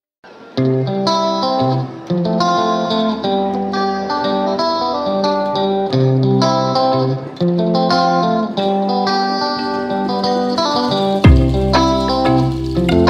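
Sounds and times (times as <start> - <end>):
instrumental music with plucked notes: 0.3 - 13.0.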